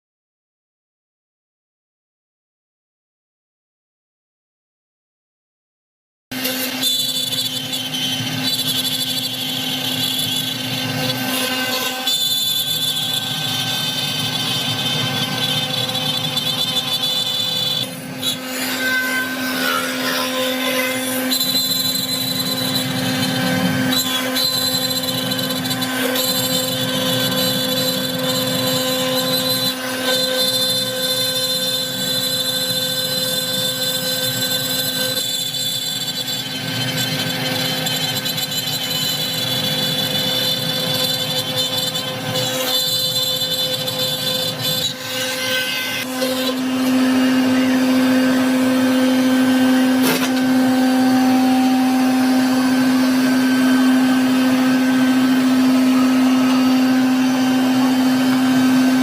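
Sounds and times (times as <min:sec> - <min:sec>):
wood cutting noise: 0:06.3 - 0:59.0
router spindle whining: 0:06.4 - 0:59.0.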